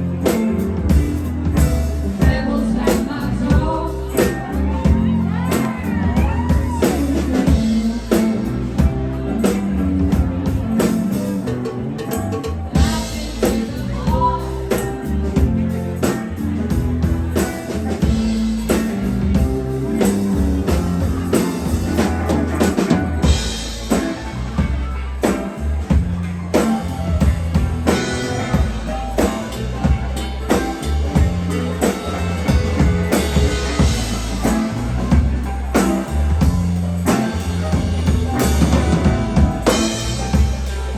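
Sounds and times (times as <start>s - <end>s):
bass and guitar: 0.0s - 40.9s
drum kit steady beat: 0.0s - 40.9s.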